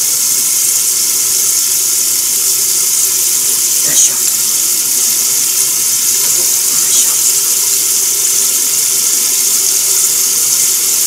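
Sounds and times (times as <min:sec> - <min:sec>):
tap water hissing into sink: 0:00.0 - 0:11.0.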